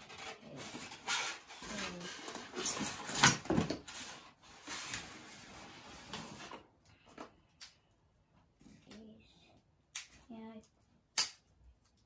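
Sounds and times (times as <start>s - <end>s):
rustling of things handled: 0.0s - 10.9s.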